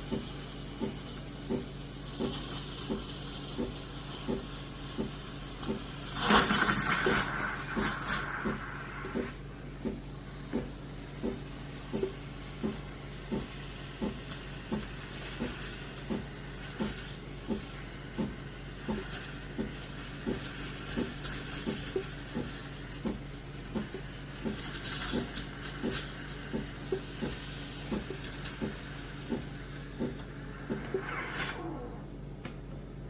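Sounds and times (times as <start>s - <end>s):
espresso machine hissing: 0.0s - 32.0s
espresso machine pump humming: 0.0s - 32.2s.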